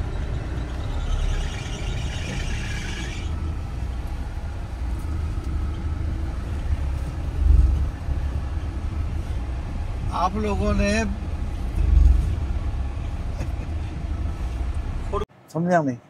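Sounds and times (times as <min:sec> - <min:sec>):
engine and road rumble in cabin: 0:00.0 - 0:15.3.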